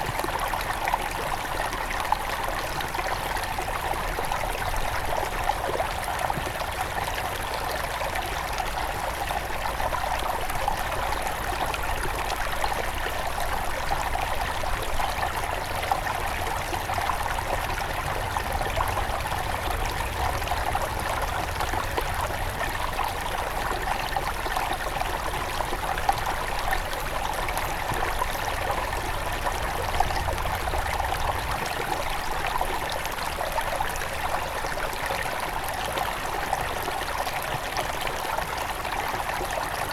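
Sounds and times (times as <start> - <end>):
river trickling over stones: 0.0 - 39.9.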